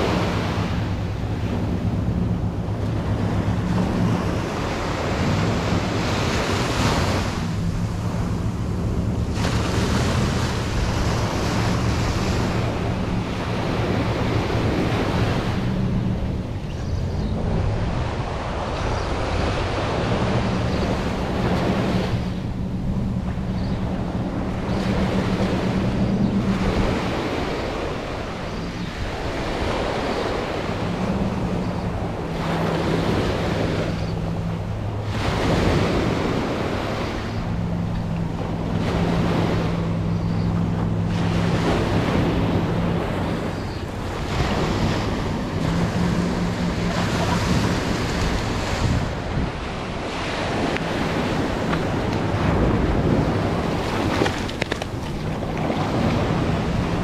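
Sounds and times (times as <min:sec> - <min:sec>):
surf breaking on beach: 0:00.0 - 0:16.4, 0:24.0 - 0:57.0
wind buffeting microphone: 0:00.0 - 0:57.0.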